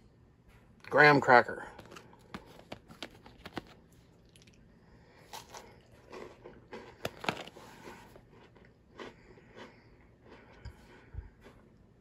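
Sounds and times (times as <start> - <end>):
chewing crunchy wafer: 1.7 - 12.0.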